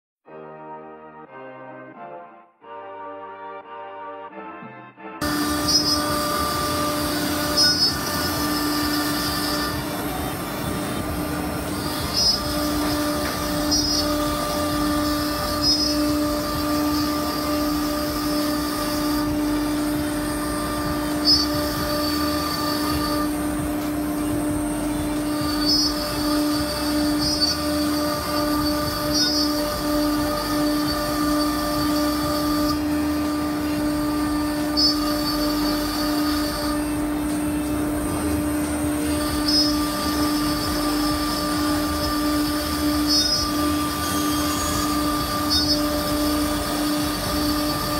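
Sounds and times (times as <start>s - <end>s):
cnc router spindle whine: 5.2s - 47.9s.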